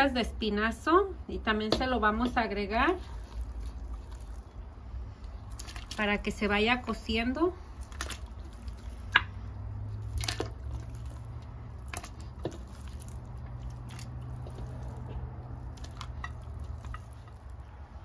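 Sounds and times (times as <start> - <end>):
pot heating low hum: 0.0 - 18.0.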